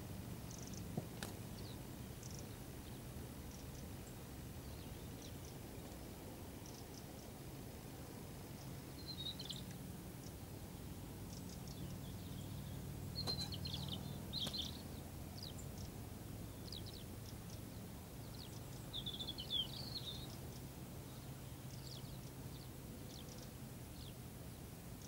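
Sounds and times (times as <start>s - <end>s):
low steady hum: 0.0s - 25.0s
small birds chirping: 0.3s - 25.0s.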